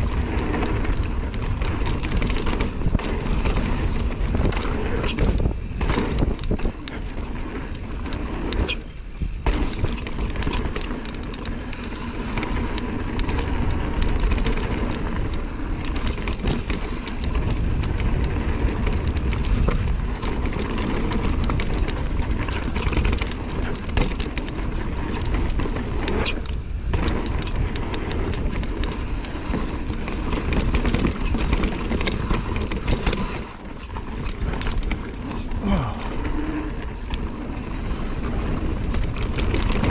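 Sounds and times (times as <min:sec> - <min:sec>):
bike rattling: 0:00.0 - 0:39.9
bike tyres rolling over dirt: 0:00.0 - 0:39.9
wind on microphone: 0:00.0 - 0:39.9.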